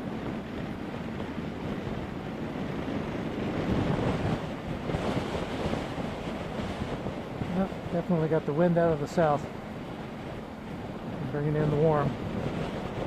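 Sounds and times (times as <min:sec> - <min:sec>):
wind noise rushing over camera: 0:00.0 - 0:13.0.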